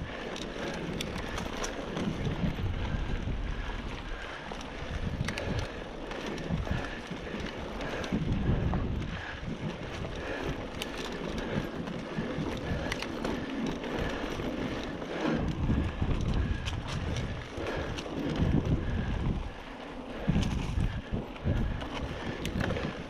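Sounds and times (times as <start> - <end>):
bike clicks and rattles: 0.0 - 23.0
bike tyres rumbling over dirt: 0.0 - 23.0
wind buffeting microphone: 0.0 - 23.0.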